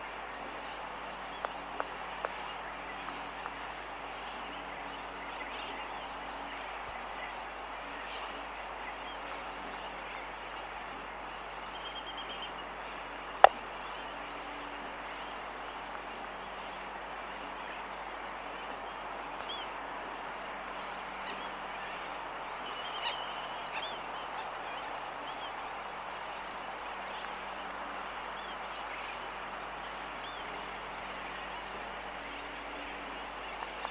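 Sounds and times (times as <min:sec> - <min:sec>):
distant bird colony noise: 0:00.0 - 0:33.9.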